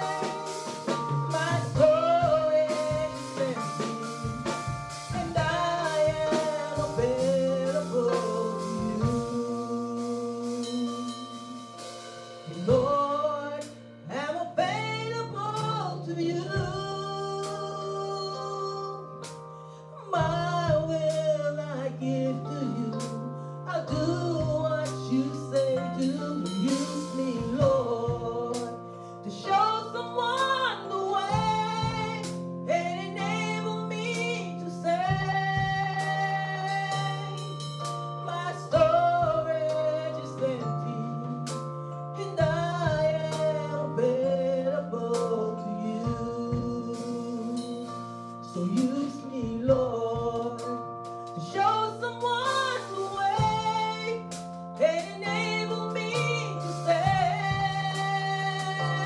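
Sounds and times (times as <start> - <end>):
woman singing gospel: 0.0 - 19.3, 20.0 - 59.0
instrumental accompaniment with bass: 0.0 - 59.0.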